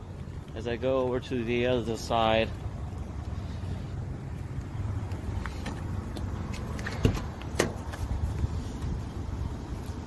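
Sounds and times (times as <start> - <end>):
footsteps on asphalt: 0.0 - 10.0.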